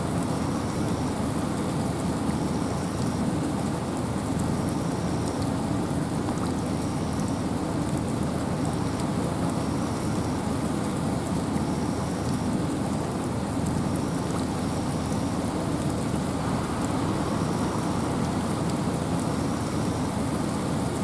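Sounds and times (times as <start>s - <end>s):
rain falling in forest: 0.0s - 21.0s
wind: 0.0s - 21.0s.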